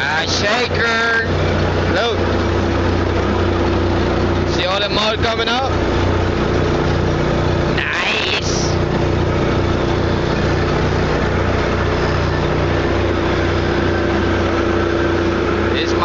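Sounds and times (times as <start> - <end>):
drilling machinery drone: 0.0 - 16.0.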